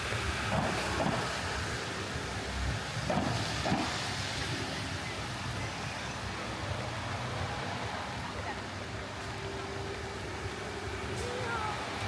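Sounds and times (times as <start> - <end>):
heavy rain on street: 0.0 - 12.0
traffic rumble: 0.0 - 12.0.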